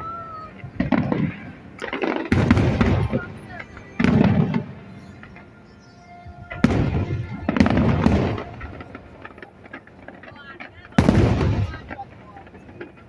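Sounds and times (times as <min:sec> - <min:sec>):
faint music: 0:00.0 - 0:13.0
fireworks bangs and crackle: 0:00.0 - 0:13.0.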